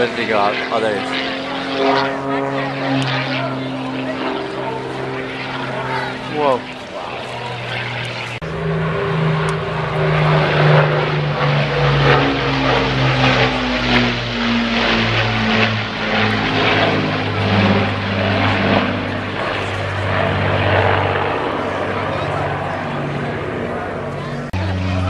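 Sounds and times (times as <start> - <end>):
propeller airplane flying past: 0.0 - 25.0.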